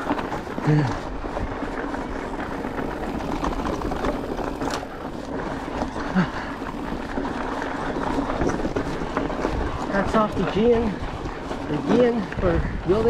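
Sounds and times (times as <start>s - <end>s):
bike rattling and ticking: 0.0s - 13.0s
bike tyres on gravel trail: 0.0s - 13.0s.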